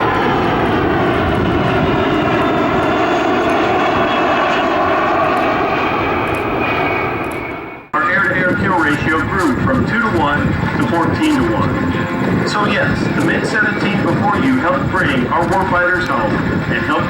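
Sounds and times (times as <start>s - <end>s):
loud jet engine noise: 0.0s - 17.0s.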